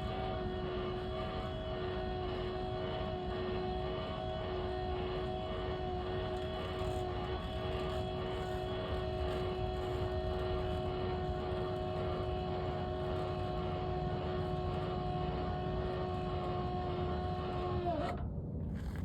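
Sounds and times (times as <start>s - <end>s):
electric motor whine: 0.0s - 18.2s.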